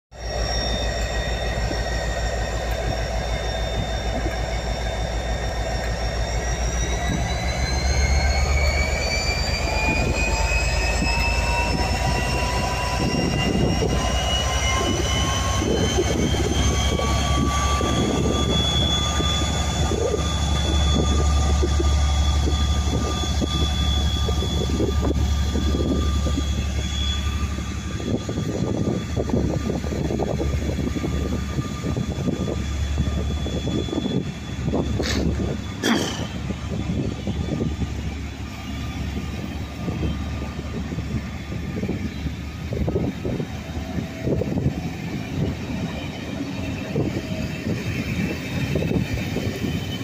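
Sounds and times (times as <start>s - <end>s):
locomotive engine drone: 0.1s - 50.0s
rising high whine: 0.1s - 50.0s.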